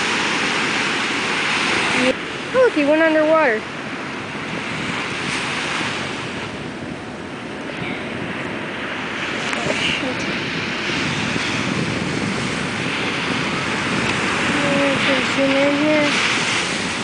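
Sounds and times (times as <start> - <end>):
surf washing up a sand beach: 0.0 - 17.0.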